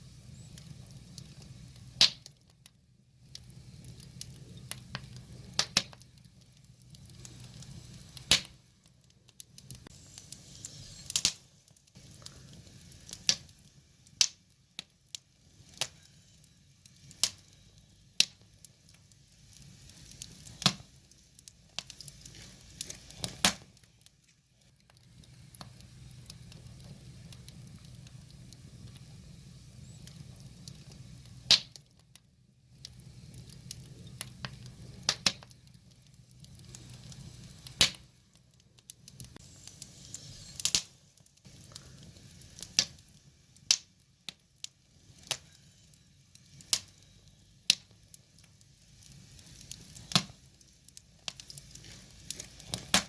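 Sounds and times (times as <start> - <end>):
faint low hiss: 0.0 - 53.0
wood fire crackling: 0.0 - 53.0.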